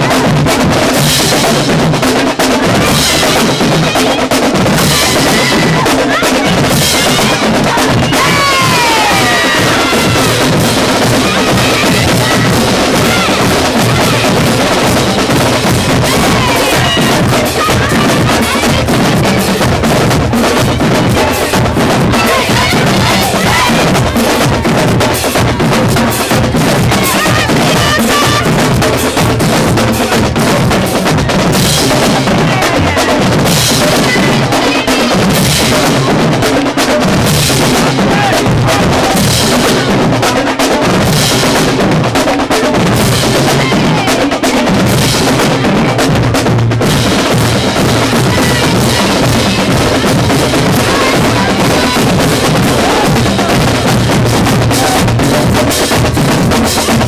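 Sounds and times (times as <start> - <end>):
marching drumline cadence: 0.0 - 57.0.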